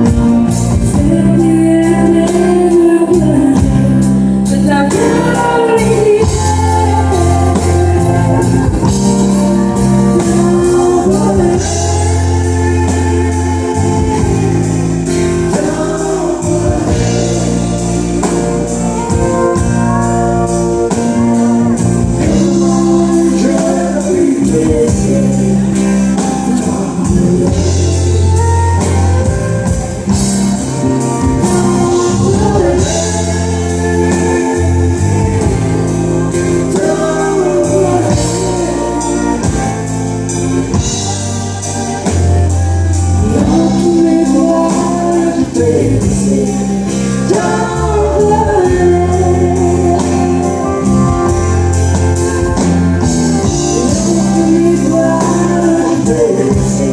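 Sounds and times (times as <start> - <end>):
drums: 0.0 - 56.9
woman and man singing: 0.0 - 56.9.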